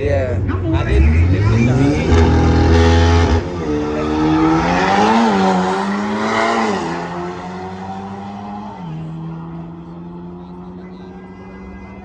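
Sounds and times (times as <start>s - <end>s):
race cars accelerating: 0.2s - 12.0s.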